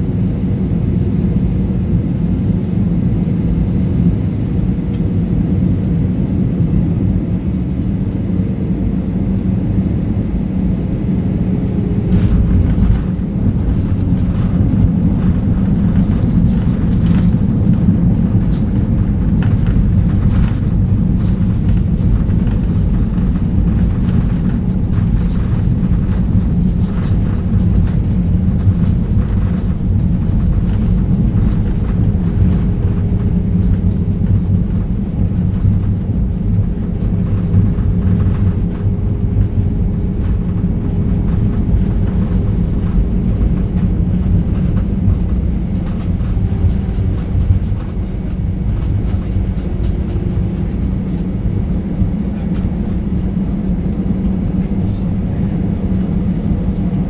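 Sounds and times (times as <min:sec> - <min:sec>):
airliner engine and runway rumble: 0:00.0 - 0:57.0.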